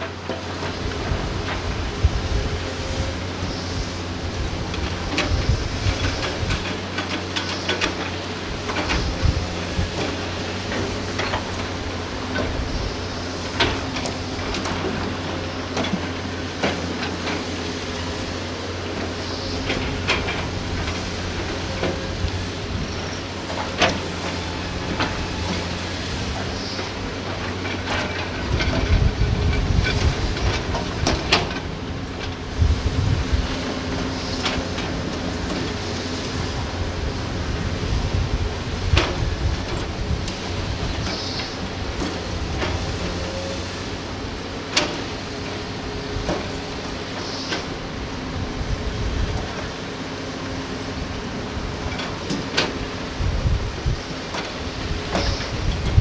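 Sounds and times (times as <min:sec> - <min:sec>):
excavator diesel engines running: 0:00.0 - 0:56.0.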